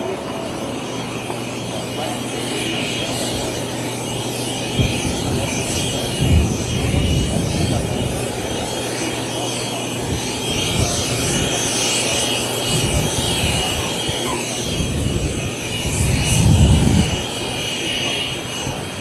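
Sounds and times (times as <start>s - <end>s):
jet engines rushing with high whine: 0.0s - 19.0s.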